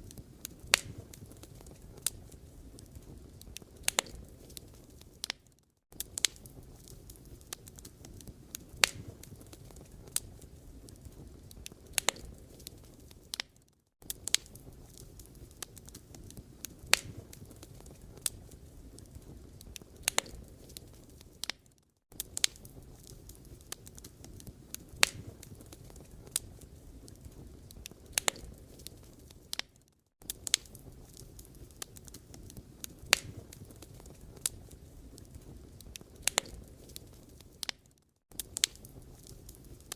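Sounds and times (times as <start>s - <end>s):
fire crackling and popping: 0.0s - 39.9s
fire low rumble: 0.0s - 39.9s.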